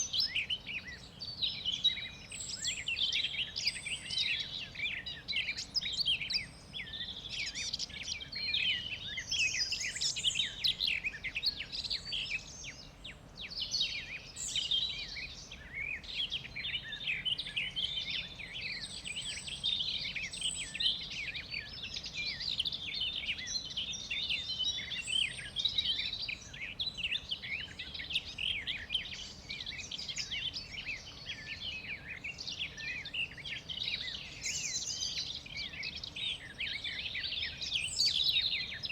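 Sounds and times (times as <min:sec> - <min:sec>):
forest birds chirping: 0:00.0 - 0:38.9.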